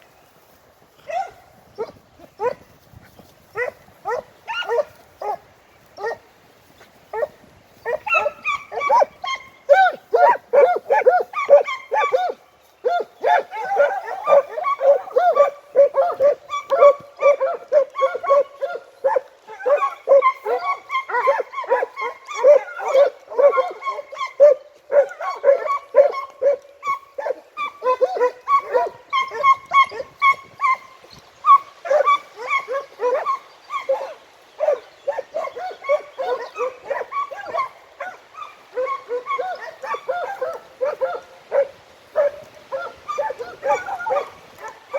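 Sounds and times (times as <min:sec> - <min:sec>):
hounds baying and yelping: 0:01.0 - 0:44.9.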